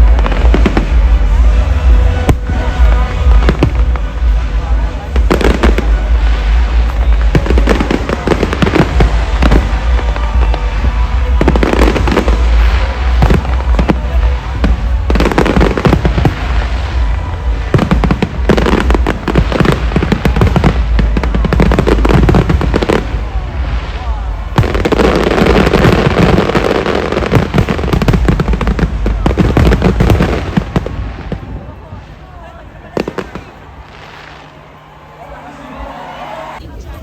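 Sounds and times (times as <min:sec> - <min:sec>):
fireworks bangs and crackling: 0:00.0 - 0:35.2.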